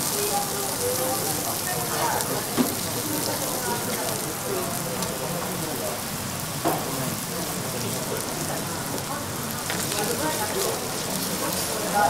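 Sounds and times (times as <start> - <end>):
prawns sizzling on a griddle: 0.0 - 12.0.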